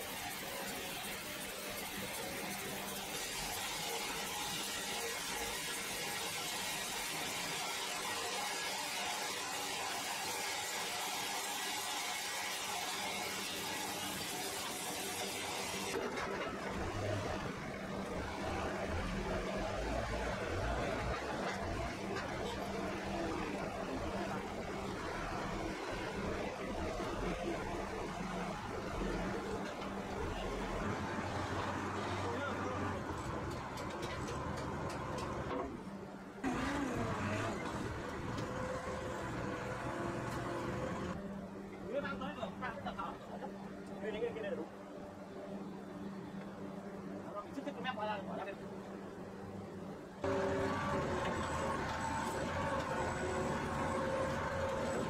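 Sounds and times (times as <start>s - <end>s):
sawmill machinery humming: 0.0s - 35.8s, 36.4s - 41.2s, 50.2s - 55.0s.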